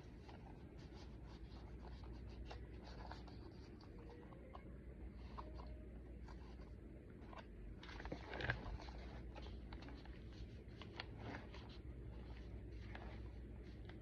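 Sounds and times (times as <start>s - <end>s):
paper pages rustling: 0.0s - 14.0s.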